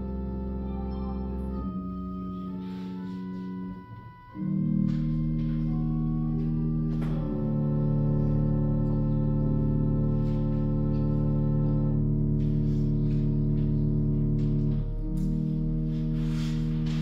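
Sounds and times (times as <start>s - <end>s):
slow held instrumental chords: 0.0s - 17.0s.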